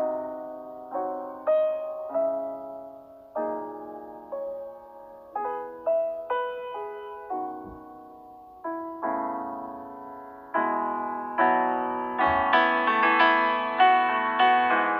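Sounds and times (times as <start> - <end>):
piano chords: 0.0 - 14.9.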